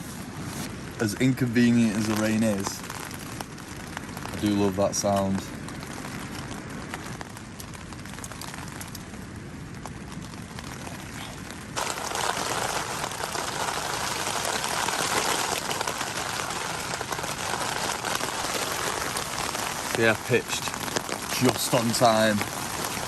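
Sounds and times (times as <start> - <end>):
rain pattering on a tent: 0.0 - 23.0.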